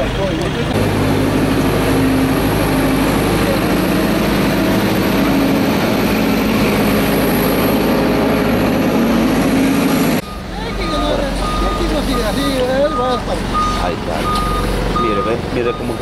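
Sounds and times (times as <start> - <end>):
engine drone with low hum: 0.0 - 16.0.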